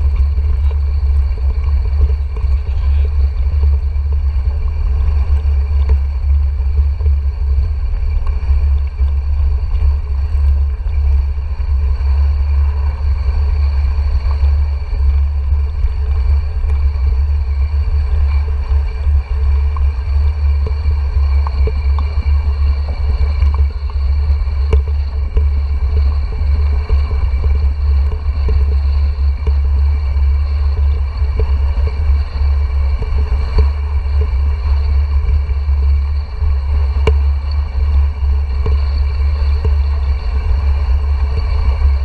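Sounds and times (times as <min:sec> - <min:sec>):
bike ride vibration: 0:00.0 - 0:42.0
wind rumble on microphone: 0:00.0 - 0:42.0.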